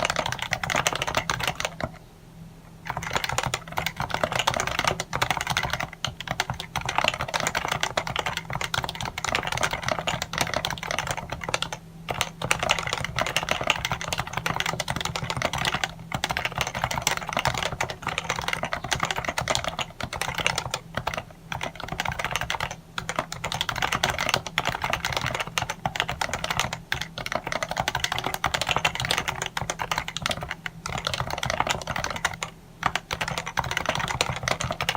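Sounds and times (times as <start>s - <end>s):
fast keyboard typing: 0.0s - 2.0s, 2.9s - 34.9s
faint low hum: 0.0s - 34.9s.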